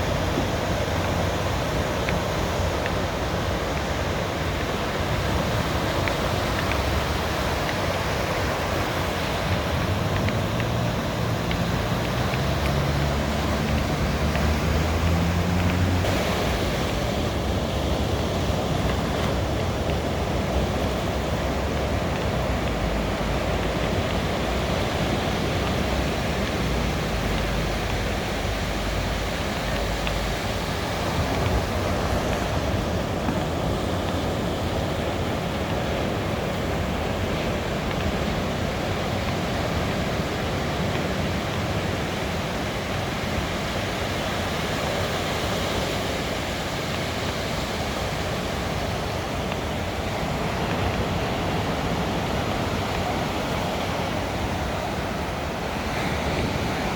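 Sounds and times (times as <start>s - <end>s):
ocean waves washing onto beach: 0.0s - 56.9s.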